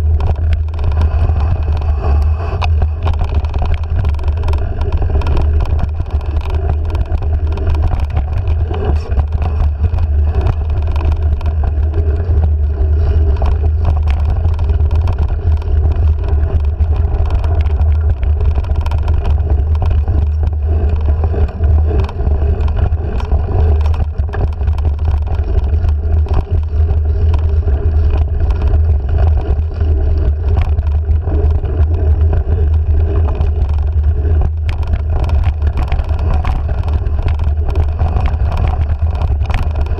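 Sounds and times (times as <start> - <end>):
bike rattles and clicks: 0.0 - 39.9
wind buffeting microphone: 0.0 - 39.9.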